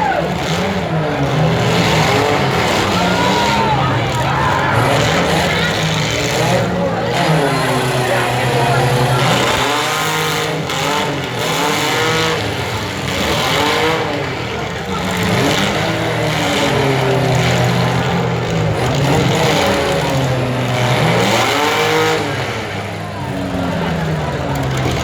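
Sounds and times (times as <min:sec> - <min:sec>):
car engines revving hard: 0:00.0 - 0:25.0.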